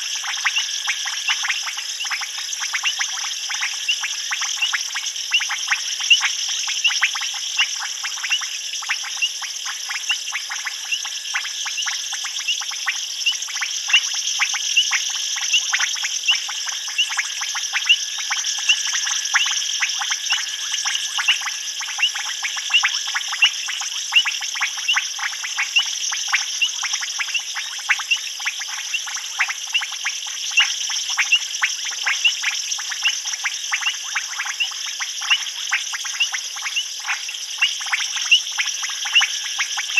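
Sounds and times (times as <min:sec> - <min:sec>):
frogs calling: 0:00.0 - 0:39.9
high-pitched insect hiss: 0:00.0 - 0:39.9.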